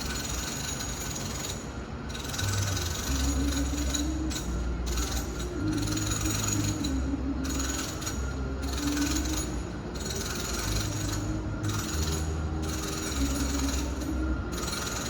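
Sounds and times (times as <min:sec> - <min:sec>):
steady low hum: 0:01.6 - 0:15.0.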